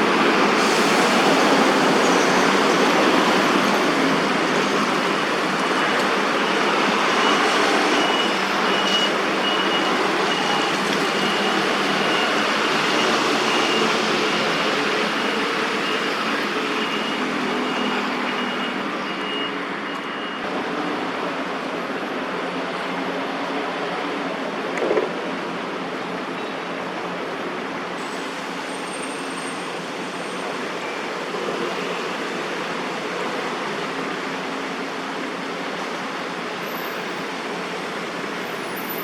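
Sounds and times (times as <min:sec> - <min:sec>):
city road traffic: 0:00.0 - 0:39.0.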